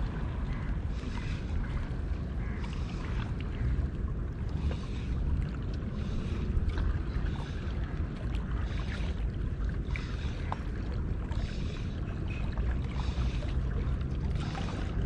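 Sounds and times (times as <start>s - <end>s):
sea water washing: 0.0s - 15.0s
wind rumbling on microphone: 0.0s - 15.0s.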